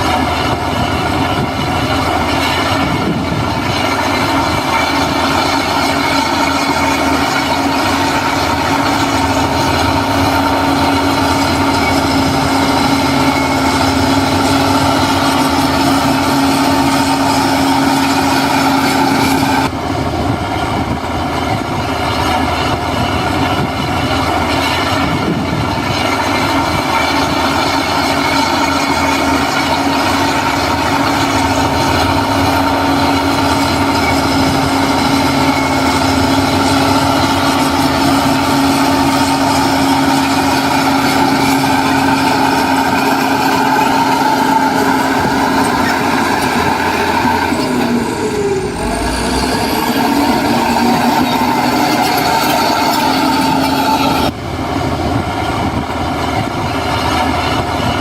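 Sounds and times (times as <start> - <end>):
diesel engine running: 0.0 - 58.0
steady whine: 0.0 - 58.0.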